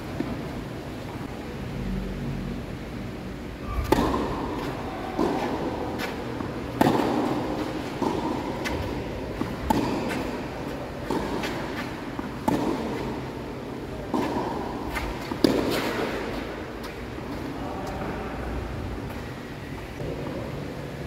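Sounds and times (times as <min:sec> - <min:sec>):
background noise: 0:00.0 - 0:21.0.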